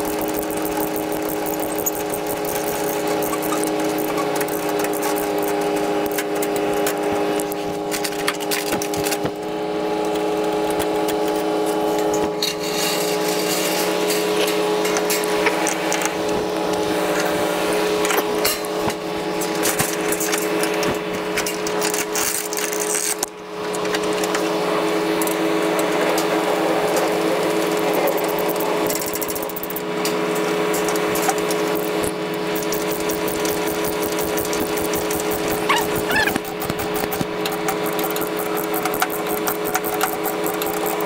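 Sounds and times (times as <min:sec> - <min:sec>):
rapid clicking and rattling: 0:00.0 - 0:16.9, 0:18.0 - 0:41.0.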